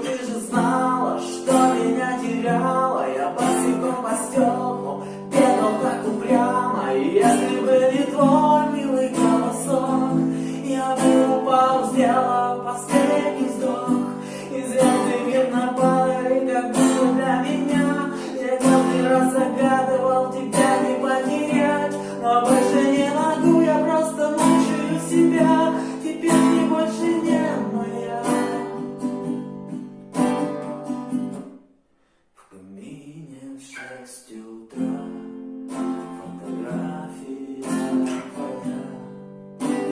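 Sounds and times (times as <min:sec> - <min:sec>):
person singing: 0:00.0 - 0:29.0, 0:36.0 - 0:39.9
acoustic guitar strumming: 0:00.0 - 0:31.7, 0:34.7 - 0:39.9.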